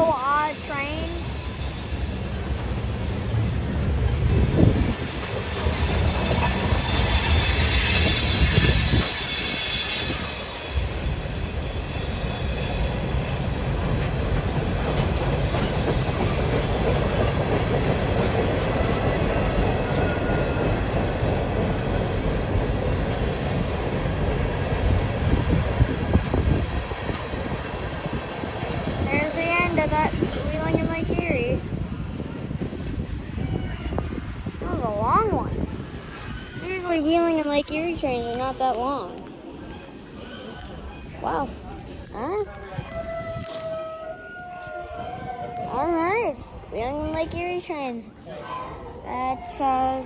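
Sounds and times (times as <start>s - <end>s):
freight cars rolling on rails: 0.0s - 50.0s.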